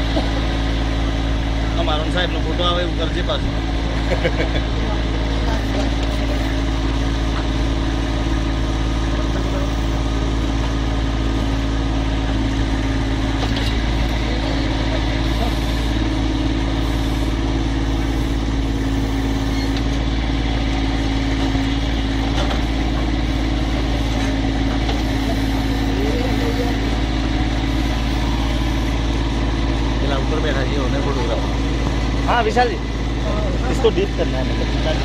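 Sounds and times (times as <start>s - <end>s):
diesel tractor engine running: 0.0s - 35.0s.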